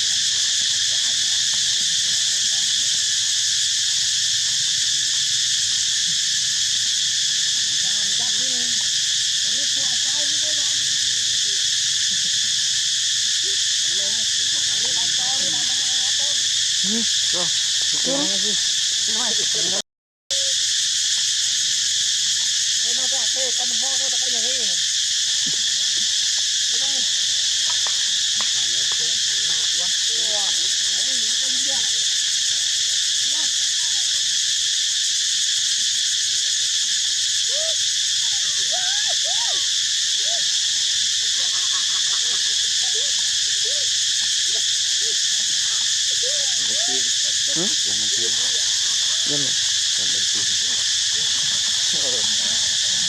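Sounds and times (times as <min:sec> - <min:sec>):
high-pitched insect chorus: 0:00.0 - 0:53.0.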